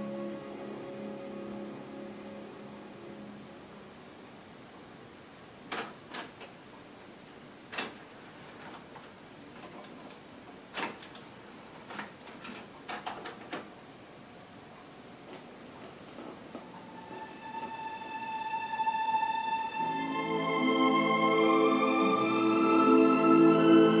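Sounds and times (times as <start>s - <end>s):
tape hiss: 0.0s - 24.0s.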